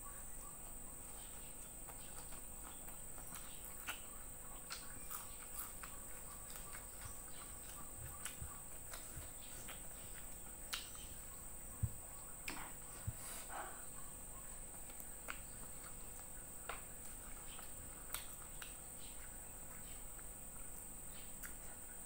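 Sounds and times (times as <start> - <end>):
steady high-pitched whine: 0.0 - 22.0
person chewing: 1.0 - 22.0.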